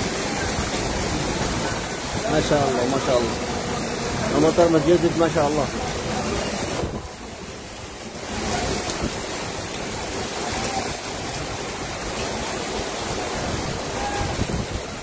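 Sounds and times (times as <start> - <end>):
floodwater rushing: 0.0 - 15.0
heavy rain falling: 0.0 - 15.0.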